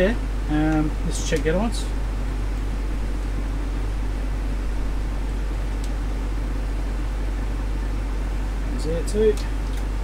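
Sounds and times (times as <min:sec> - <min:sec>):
mains hum: 0:00.0 - 0:10.0.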